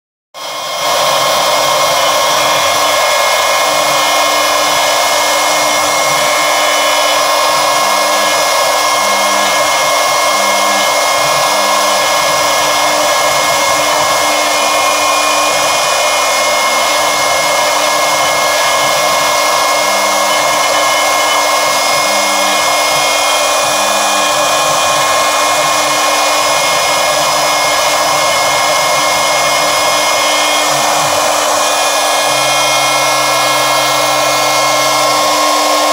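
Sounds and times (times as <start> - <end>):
router spindle carving wood: 0.4 - 35.9.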